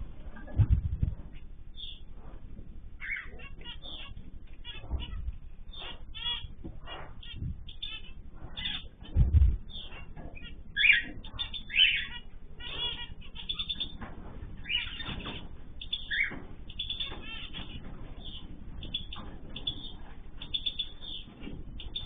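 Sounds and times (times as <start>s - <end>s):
cage birds chirping and trilling: 0.0s - 22.0s.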